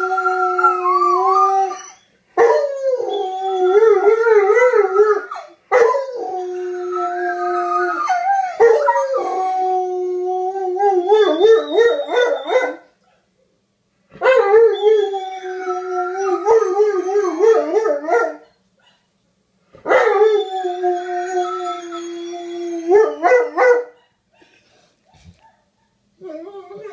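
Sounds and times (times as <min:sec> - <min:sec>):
dog howling: 0:00.0 - 0:12.8, 0:14.2 - 0:18.4, 0:19.9 - 0:23.9, 0:26.2 - 0:26.9.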